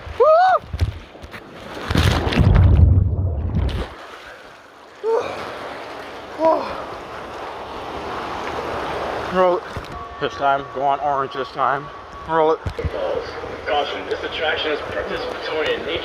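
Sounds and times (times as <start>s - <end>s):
water sloshing: 0.0s - 16.0s.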